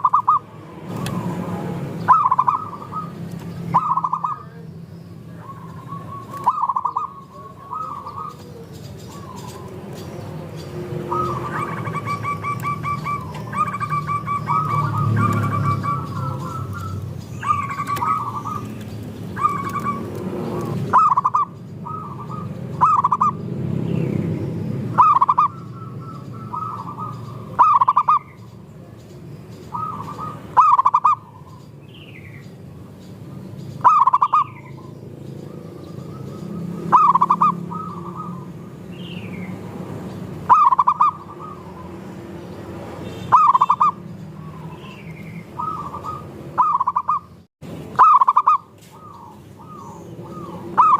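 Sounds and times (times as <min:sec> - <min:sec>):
doves cooing: 0:00.0 - 0:23.5, 0:24.8 - 0:28.5, 0:29.6 - 0:31.7, 0:33.8 - 0:42.4, 0:43.3 - 0:50.9
high falling bird chirps: 0:00.0 - 0:50.9.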